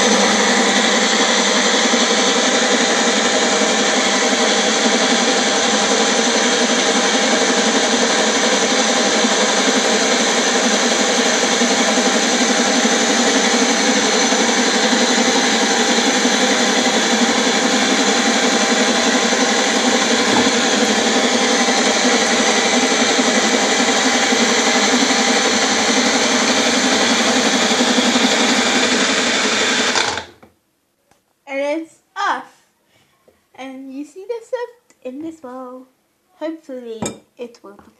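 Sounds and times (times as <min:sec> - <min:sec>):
blender running: 0:00.0 - 0:30.4.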